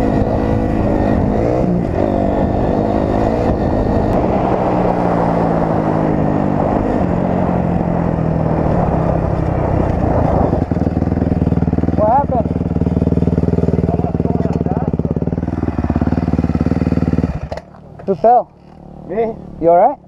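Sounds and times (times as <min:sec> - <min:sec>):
rough rushing noise: 0:00.0 - 0:19.6
dirt bike engine revving: 0:00.0 - 0:19.8.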